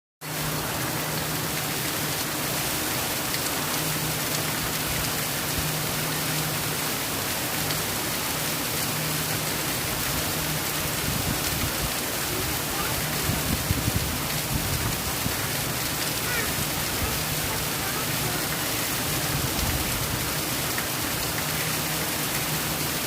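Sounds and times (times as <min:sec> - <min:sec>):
steady rain hiss: 0:00.2 - 0:23.0.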